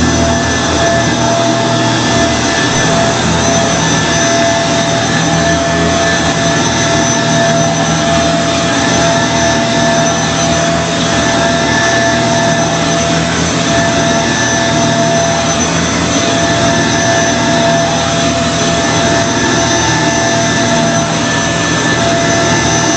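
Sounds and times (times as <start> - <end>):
vacuum cleaner running: 0.0 - 22.9.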